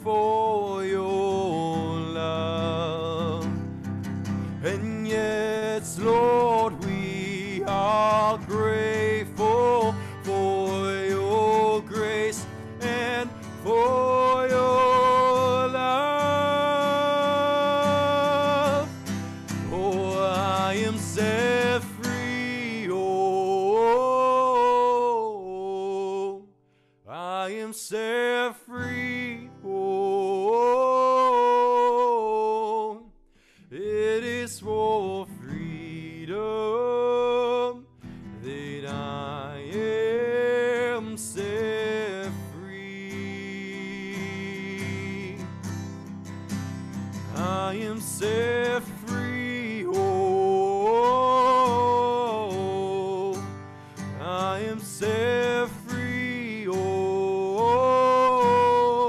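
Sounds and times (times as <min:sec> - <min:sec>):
man singing: 0:00.0 - 0:26.5, 0:27.1 - 0:45.9, 0:47.0 - 0:59.0
strummed acoustic guitar: 0:00.0 - 0:59.0.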